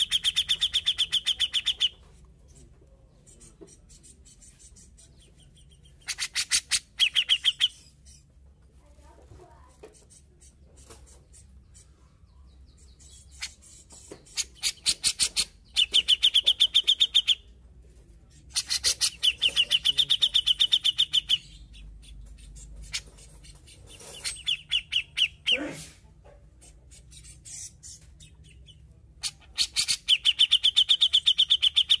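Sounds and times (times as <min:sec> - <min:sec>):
bird chattering and trilling: 0:00.0 - 0:17.6, 0:18.2 - 0:25.7, 0:26.4 - 0:32.0.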